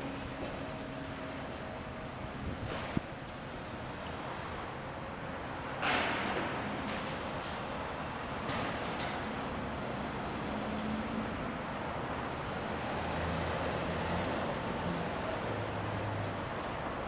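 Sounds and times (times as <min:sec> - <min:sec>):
construction site noise: 0:00.0 - 0:17.0
low hum of engines: 0:00.0 - 0:17.0
traffic noise: 0:00.0 - 0:17.0.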